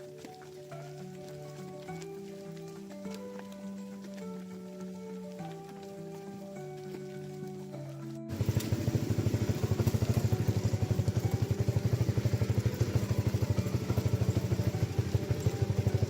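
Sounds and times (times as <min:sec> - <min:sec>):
small engine puttering: 0:00.0 - 0:16.0.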